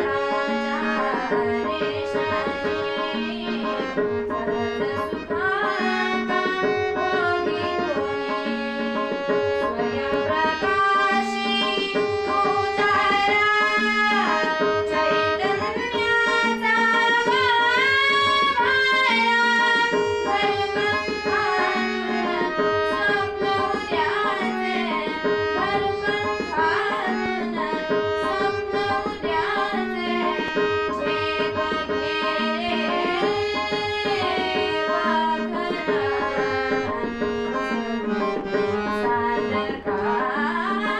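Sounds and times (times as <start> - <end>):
tabla drumming: 0.0 - 40.9
woman singing: 0.0 - 40.9.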